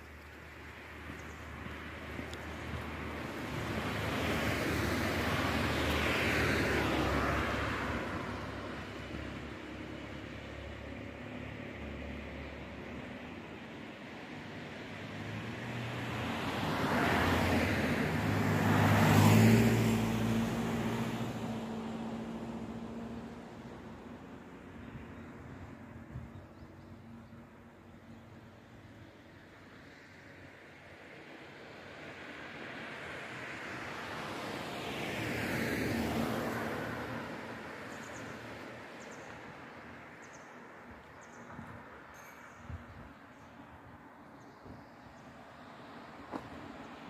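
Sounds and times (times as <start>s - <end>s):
road vehicle passing by: 0.0s - 26.0s, 26.8s - 42.1s.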